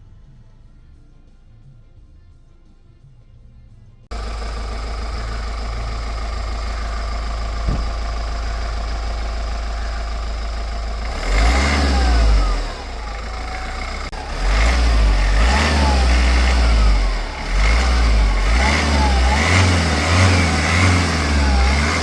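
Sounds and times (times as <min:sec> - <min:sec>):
diesel engine idling and revving: 0:04.1 - 0:22.0.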